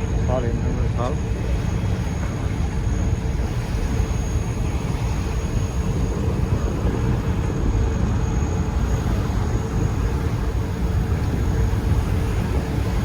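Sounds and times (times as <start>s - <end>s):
ferry engine drone: 0.0s - 13.0s
water rushing along hull: 0.0s - 13.0s
wind on microphone: 0.0s - 13.0s.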